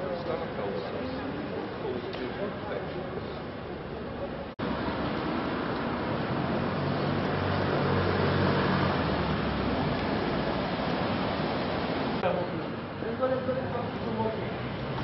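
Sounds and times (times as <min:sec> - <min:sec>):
rushing road traffic: 0:00.0 - 0:15.0.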